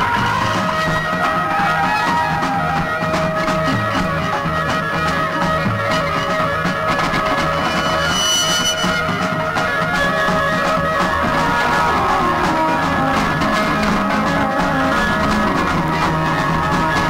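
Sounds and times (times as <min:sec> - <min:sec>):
rock band jamming live: 0:00.0 - 0:17.0.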